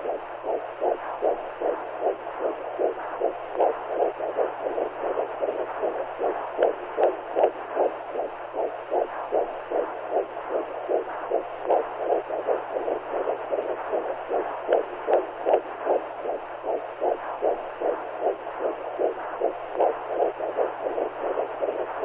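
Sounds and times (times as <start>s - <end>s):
faint low hum: 0.0s - 22.0s
muffled heartbeat whooshes: 0.0s - 22.0s.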